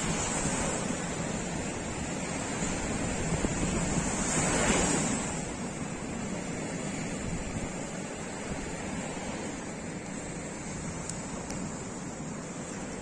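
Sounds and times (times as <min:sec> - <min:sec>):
sea surf washing: 0:00.0 - 0:13.0
wind on microphone: 0:00.0 - 0:13.0.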